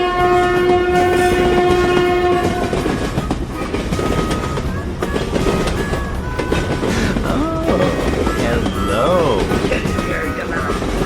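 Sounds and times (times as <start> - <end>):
train horn blast: 0.0 - 11.0
train rumbling on rails: 0.0 - 11.0.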